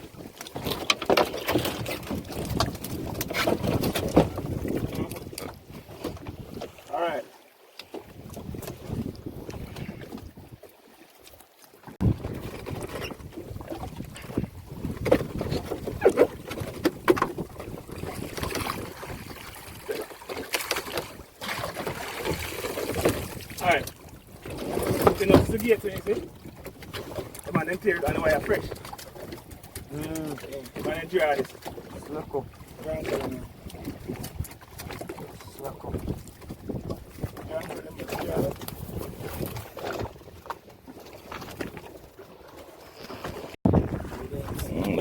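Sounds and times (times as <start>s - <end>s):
water knocking against hull: 0.0s - 6.9s, 7.7s - 10.7s, 11.9s - 45.0s
wind on microphone: 0.0s - 6.9s, 8.0s - 10.7s, 12.0s - 20.1s, 21.0s - 31.0s, 31.7s - 42.0s, 42.9s - 45.0s.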